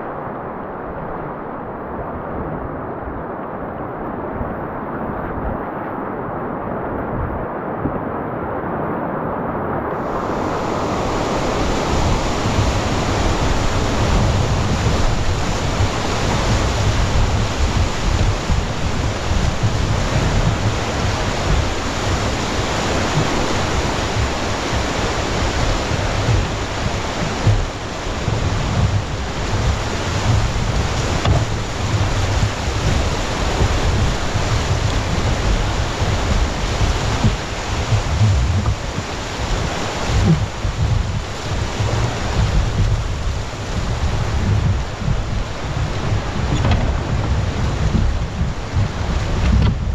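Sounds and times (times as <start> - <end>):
rushing whitewater river: 0.0 - 49.9
wind buffeting microphone: 9.5 - 49.9.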